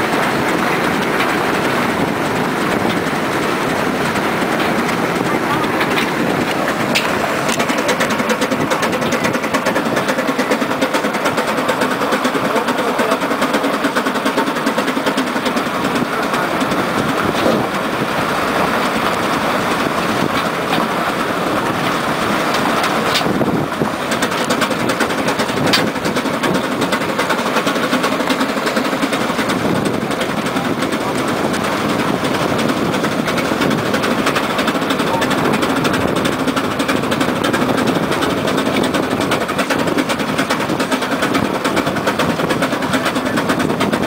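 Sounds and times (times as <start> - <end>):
steam locomotive clattering rumble: 0.0 - 44.0.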